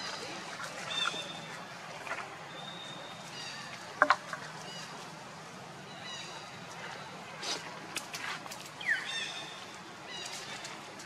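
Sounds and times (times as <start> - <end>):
steady hiss and low hum: 0.0 - 11.0.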